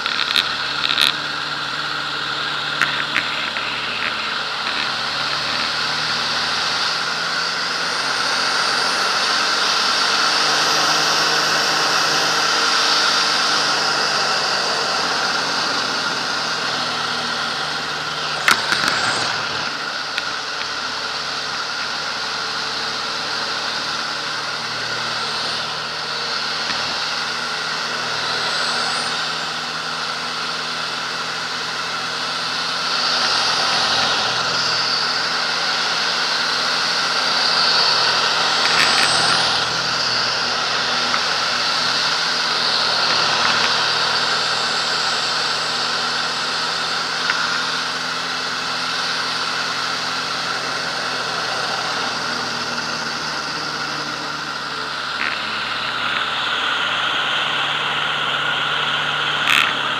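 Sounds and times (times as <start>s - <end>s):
propeller plane engine: 0.0s - 59.9s.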